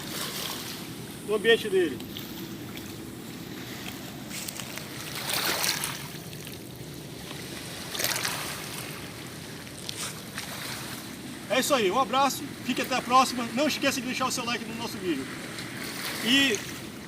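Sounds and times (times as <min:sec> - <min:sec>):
small waves washing ashore: 0:00.0 - 0:17.0.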